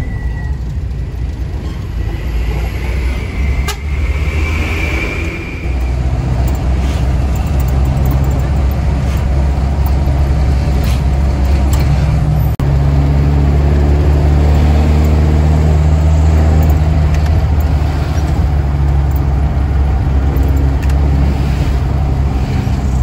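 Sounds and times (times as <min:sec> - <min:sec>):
low engine drone: 0:00.0 - 0:23.0
road noise: 0:00.0 - 0:23.0.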